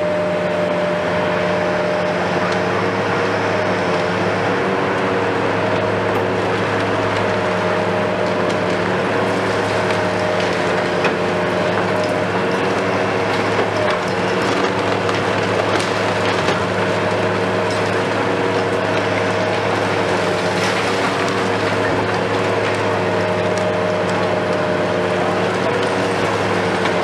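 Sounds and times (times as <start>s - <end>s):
excavator diesel engine running: 0.0s - 27.0s
concrete cracking and crunching: 4.5s - 27.0s.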